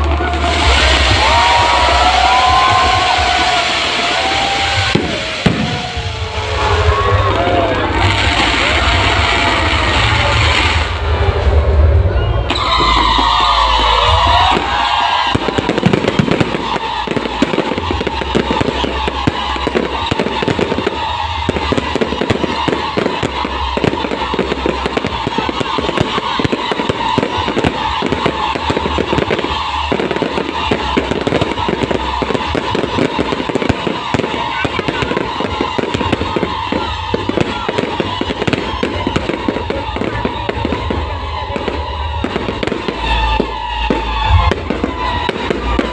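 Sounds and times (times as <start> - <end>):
fireworks crackling and popping: 0.0 - 11.8, 12.5 - 45.9
music playing: 0.0 - 45.9.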